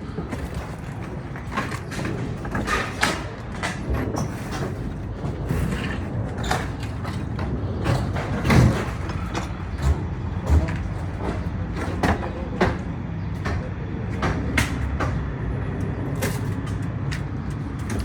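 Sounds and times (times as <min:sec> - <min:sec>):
demolition knocks and clattering impacts: 0:00.0 - 0:18.0.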